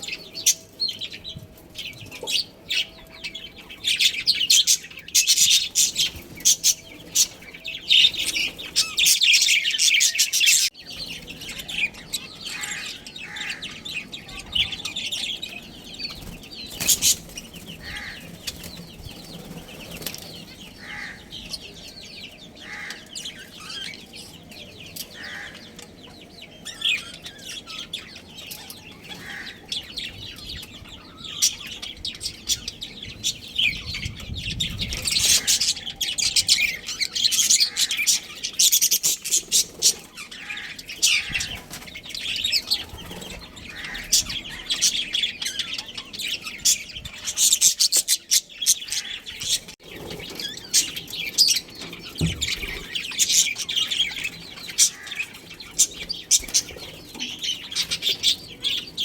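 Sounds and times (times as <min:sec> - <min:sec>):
budgies chirping: 0:00.0 - 0:59.0.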